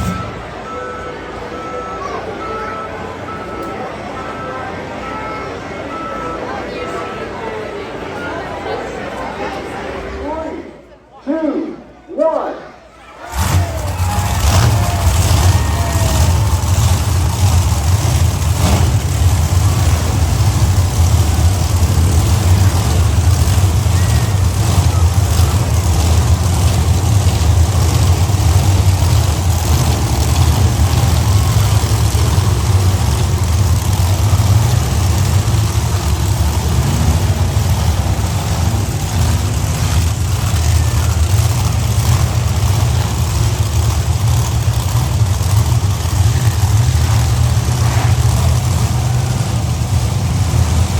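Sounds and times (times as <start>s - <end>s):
monster truck engines rumbling: 0.0s - 50.9s.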